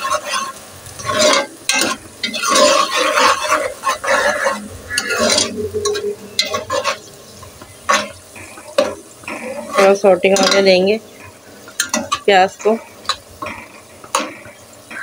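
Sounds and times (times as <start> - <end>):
metal ladle scraping pot: 0.0 - 15.0
onions sizzling in oil: 0.0 - 15.0.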